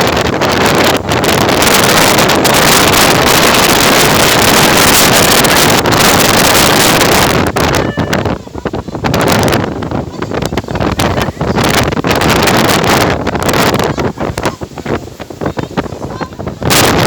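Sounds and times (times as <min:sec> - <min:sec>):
strong wind on microphone: 0:00.0 - 0:17.0.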